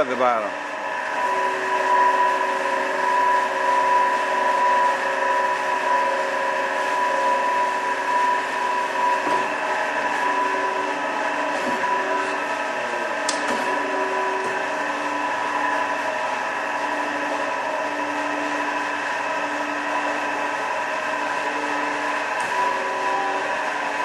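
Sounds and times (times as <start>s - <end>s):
band saw running: 0.0s - 24.0s.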